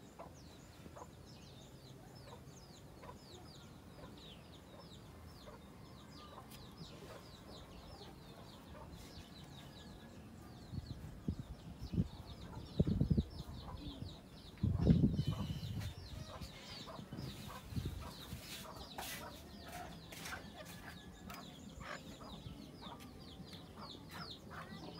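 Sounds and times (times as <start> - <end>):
bird chirps: 0.0 - 24.9.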